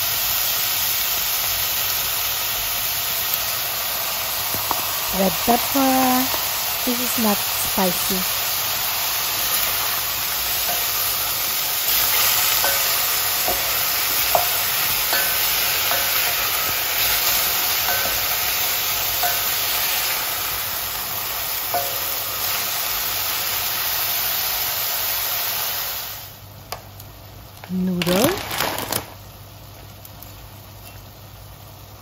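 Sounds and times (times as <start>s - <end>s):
vegetables sizzling in a pot: 0.0s - 32.0s.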